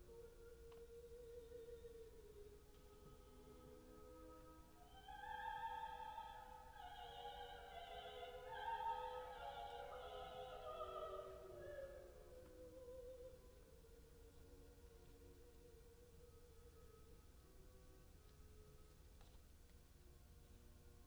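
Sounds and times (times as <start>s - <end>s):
operatic singing with classical music: 0.0s - 17.9s.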